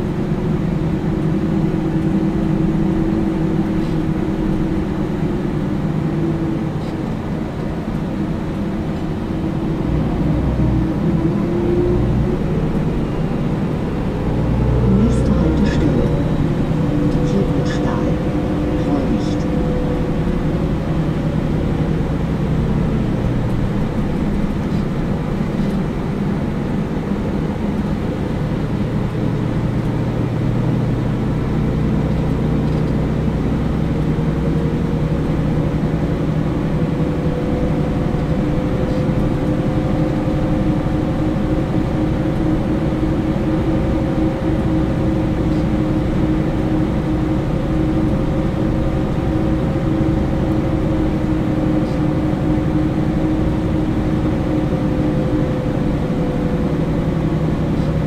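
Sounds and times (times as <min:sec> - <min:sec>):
bus engine rumble: 0:00.0 - 0:58.0
rising whine: 0:00.0 - 0:58.0
road noise: 0:00.0 - 0:58.0.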